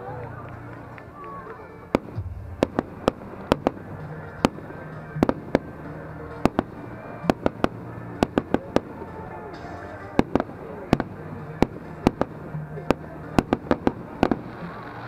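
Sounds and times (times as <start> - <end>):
fireworks bangs and cracks: 1.4 - 9.0, 10.2 - 15.0.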